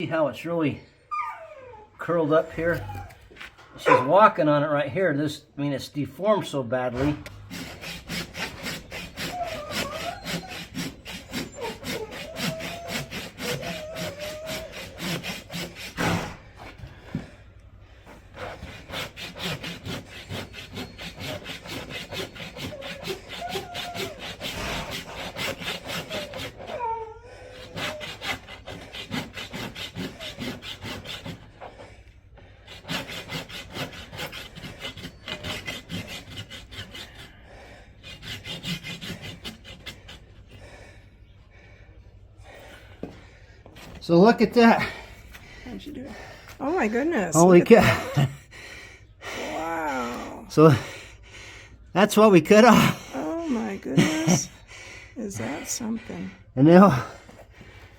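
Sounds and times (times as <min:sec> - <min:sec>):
saw cutting through hoof: 0:02.0 - 0:05.3, 0:05.9 - 0:41.1, 0:42.5 - 0:51.2, 0:51.8 - 0:57.9.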